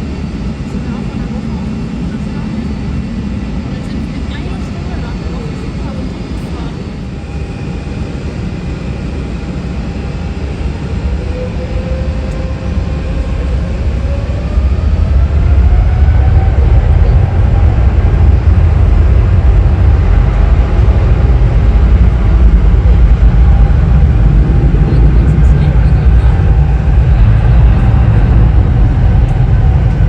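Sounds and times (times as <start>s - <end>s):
jet engine whine: 0.0s - 30.0s
jet engines rumbling: 0.0s - 30.0s.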